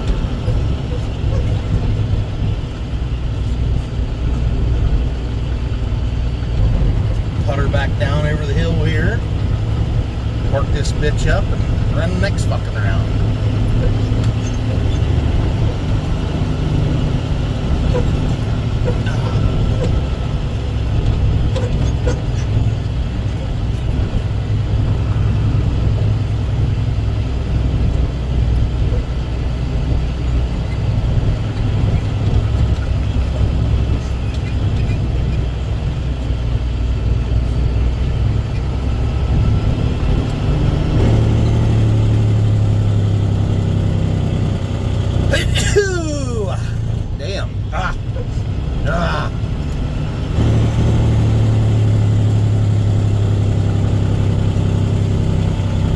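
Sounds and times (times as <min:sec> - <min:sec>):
diesel truck engine running: 0:00.0 - 0:55.9.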